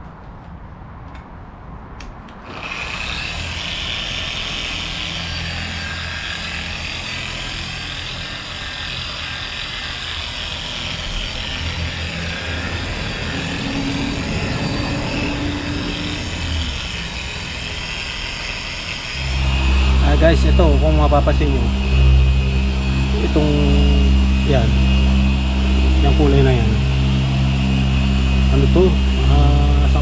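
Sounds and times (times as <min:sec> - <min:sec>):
electric power tool whining: 0:02.4 - 0:30.0.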